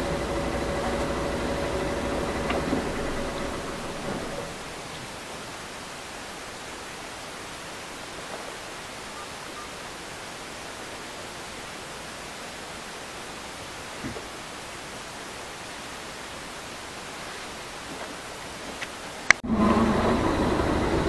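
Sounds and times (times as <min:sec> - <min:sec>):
steady hiss: 0:00.0 - 0:19.4.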